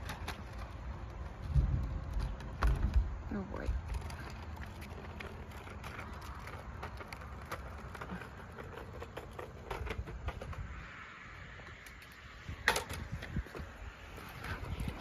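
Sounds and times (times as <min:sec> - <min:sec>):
scooter wheels rolling on asphalt: 0:00.0 - 0:15.0.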